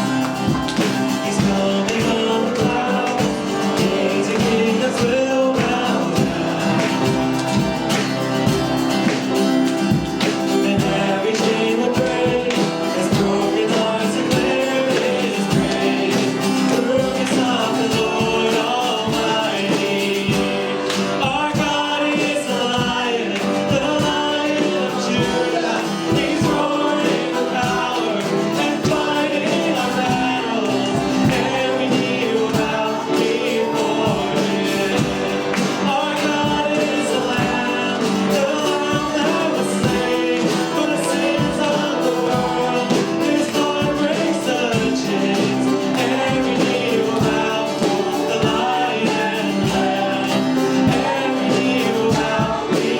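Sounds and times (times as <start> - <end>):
steady drum beat: 0.0 - 52.9
voices singing: 0.0 - 52.9
worship band playing: 0.0 - 52.9.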